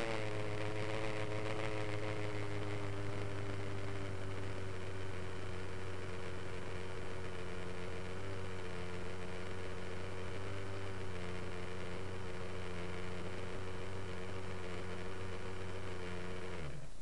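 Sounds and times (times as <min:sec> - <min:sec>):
rc helicopter engine idling: 0:00.0 - 0:17.0.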